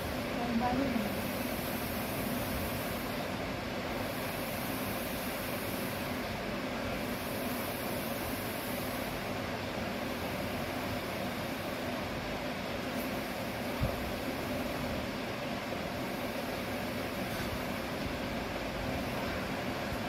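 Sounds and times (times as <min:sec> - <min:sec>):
ventilator hiss: 0:00.0 - 0:20.0
ventilator hum: 0:00.0 - 0:20.0.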